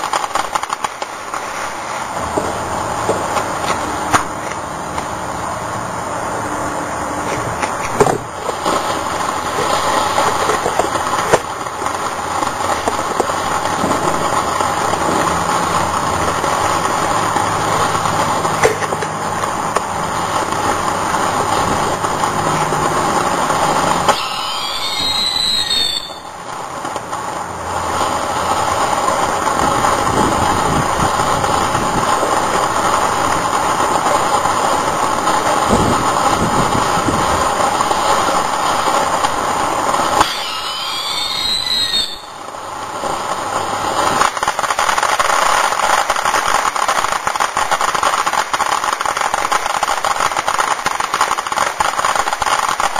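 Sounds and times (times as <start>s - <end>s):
fireworks hissing: 0.0s - 52.9s
whistling fireworks: 0.0s - 52.9s.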